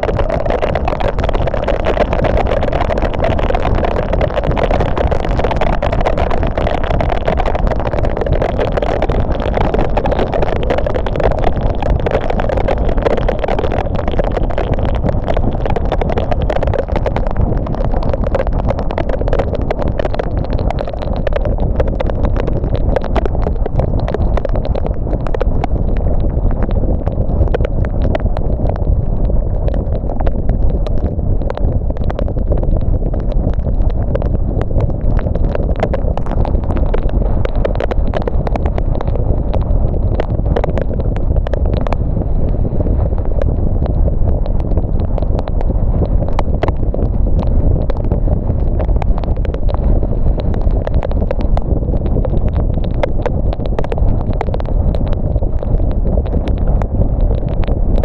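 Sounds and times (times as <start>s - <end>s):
raindrops ticking: 0.0s - 58.0s.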